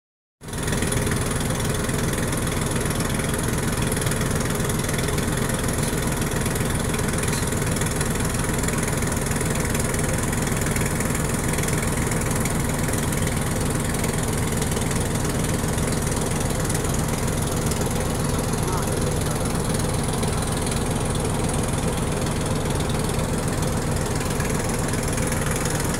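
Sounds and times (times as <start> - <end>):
boat engine idling: 0.4 - 25.9.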